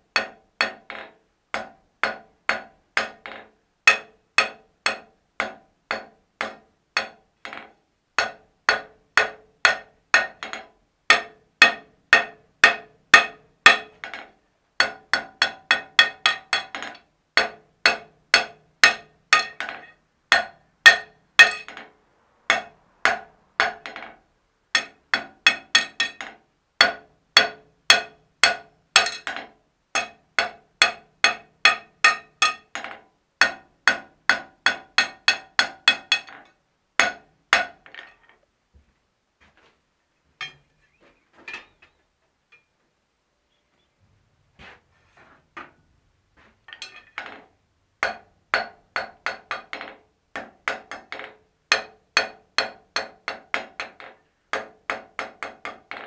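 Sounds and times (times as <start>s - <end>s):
hammer striking iron on anvil: 0.2s - 21.9s, 22.5s - 24.2s, 24.8s - 38.2s, 40.4s - 40.6s, 48.0s - 56.0s.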